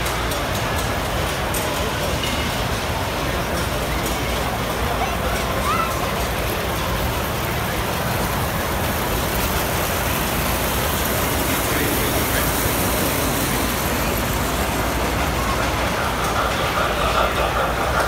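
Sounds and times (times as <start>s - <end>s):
crowd hubbub: 0.0s - 18.0s
toy train rumbling on metal track: 0.0s - 18.0s.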